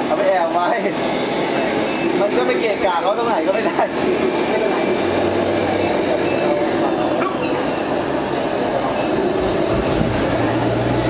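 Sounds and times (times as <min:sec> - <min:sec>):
toy truck motor running: 0:00.4 - 0:11.0.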